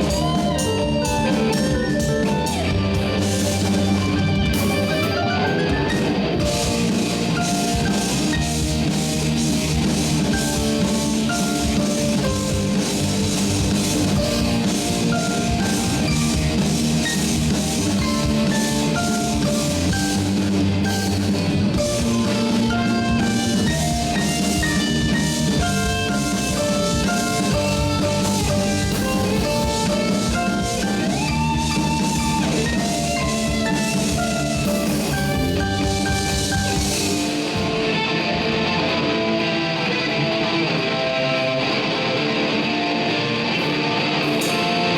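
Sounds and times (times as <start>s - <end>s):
drum kit beat: 0.0s - 39.6s
electric guitar melodies: 0.0s - 44.9s.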